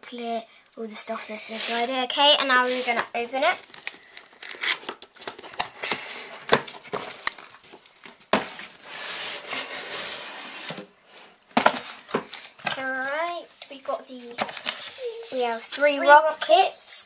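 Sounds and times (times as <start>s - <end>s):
cardboard rustling and scraping: 1.1s - 16.4s.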